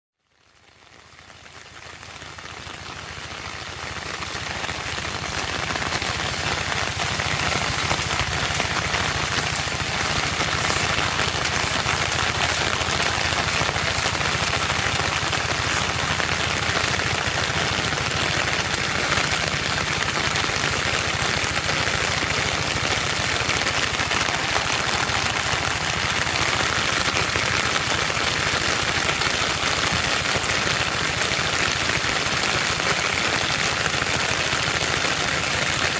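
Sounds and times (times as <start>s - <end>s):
heavy rain falling: 0.4s - 35.9s.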